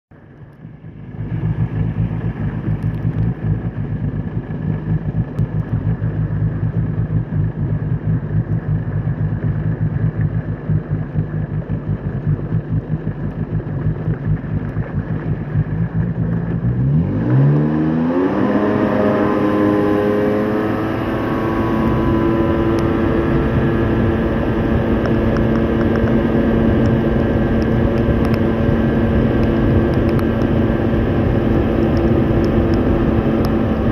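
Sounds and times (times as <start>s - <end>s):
personal watercraft engine: 0.1s - 33.9s.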